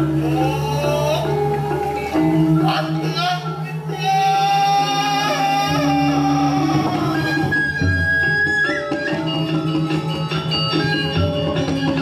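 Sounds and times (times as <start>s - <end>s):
gamelan metallophones ringing: 0.0s - 12.0s.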